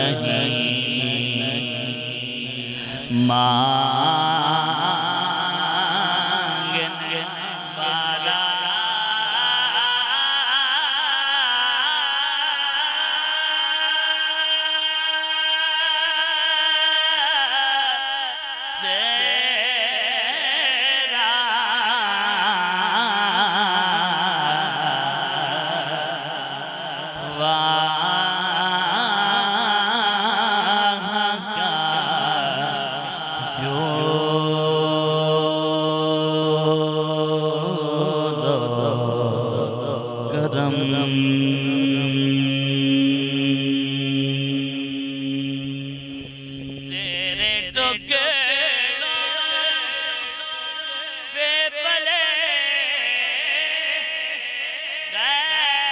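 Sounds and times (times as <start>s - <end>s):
man singing into a microphone: 0.0s - 55.9s.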